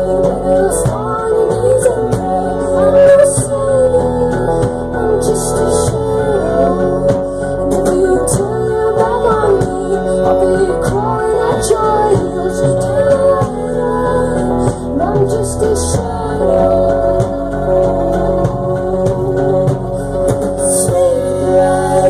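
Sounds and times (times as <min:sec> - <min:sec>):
drums: 0:00.0 - 0:22.0
electric guitar: 0:00.0 - 0:22.0
keyboard: 0:00.0 - 0:22.0.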